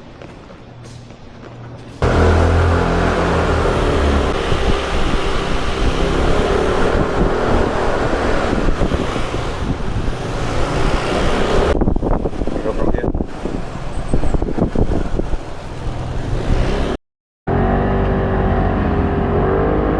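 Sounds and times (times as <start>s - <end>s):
vehicle engines passing: 2.0s - 19.9s.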